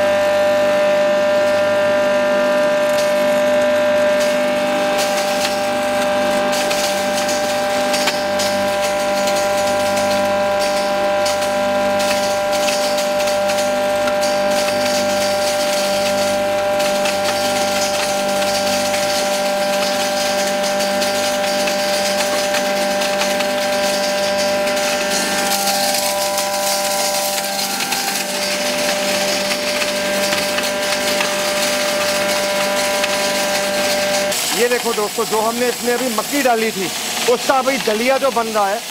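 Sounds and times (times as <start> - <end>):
flour mill motor hum: 0.0 - 38.9
grain grinding: 0.3 - 38.9.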